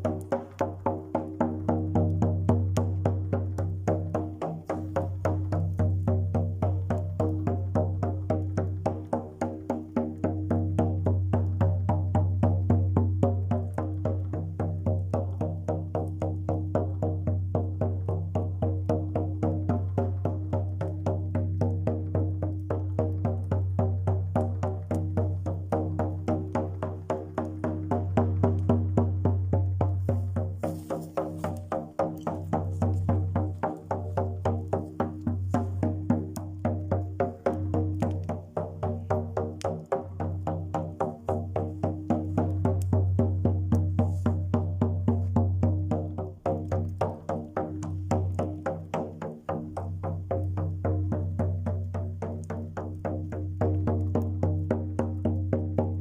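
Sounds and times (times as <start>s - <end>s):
rapid percussive beat: 0.0s - 56.0s.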